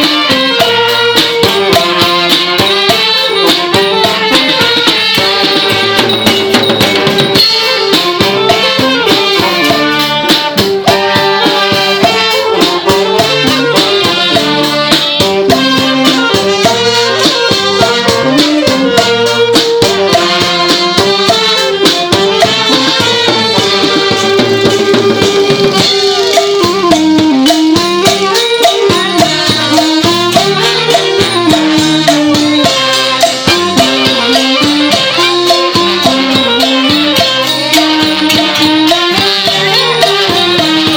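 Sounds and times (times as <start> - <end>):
busy drums and cymbals: 0.0 - 40.9
wavering reed pipe melody: 0.0 - 40.9.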